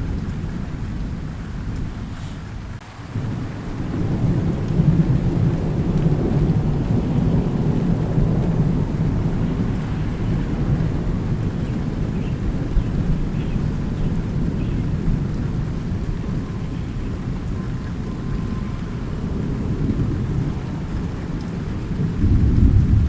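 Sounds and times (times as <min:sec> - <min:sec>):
low rolling thunder: 0:00.0 - 0:23.0
steady rain: 0:00.0 - 0:23.0.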